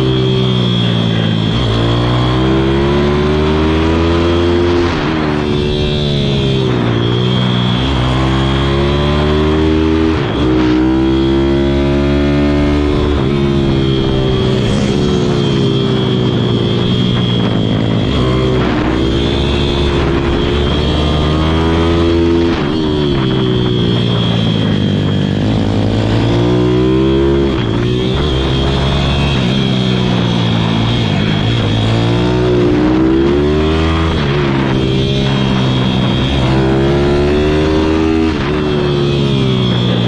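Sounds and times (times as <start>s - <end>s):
motorbike engine revving: 0.0s - 40.0s
steady high whine: 0.0s - 40.0s.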